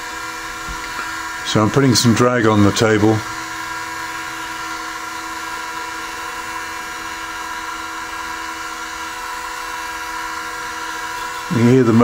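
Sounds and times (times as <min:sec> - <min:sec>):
small motor whining: 0:00.0 - 0:12.0.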